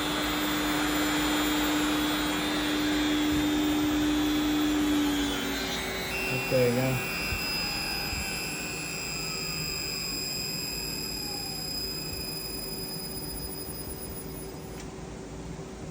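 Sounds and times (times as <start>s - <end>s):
whine gliding down in pitch: 0.0s - 14.9s
electric motor drive whining: 0.0s - 15.0s.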